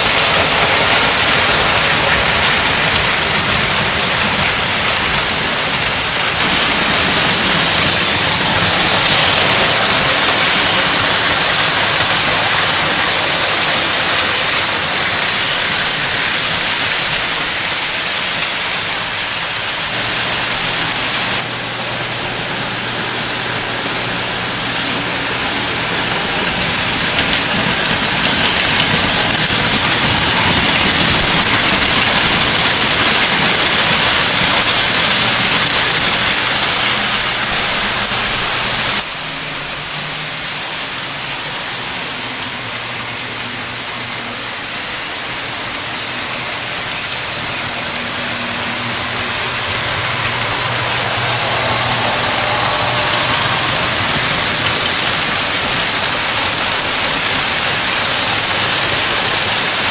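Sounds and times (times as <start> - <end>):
toy train wheels on metal track: 0.0 - 59.9.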